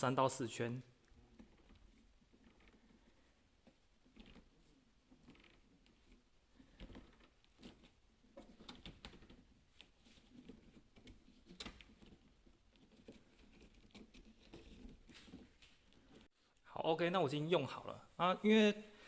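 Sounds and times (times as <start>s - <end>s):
faint handling noises: 0.9s - 16.7s
small clicks and rubbing: 0.9s - 16.7s.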